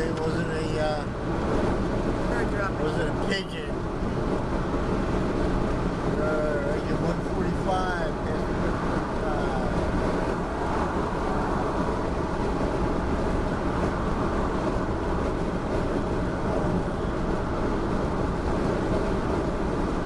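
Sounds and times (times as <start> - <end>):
car cabin road and wind noise: 0.0 - 20.0.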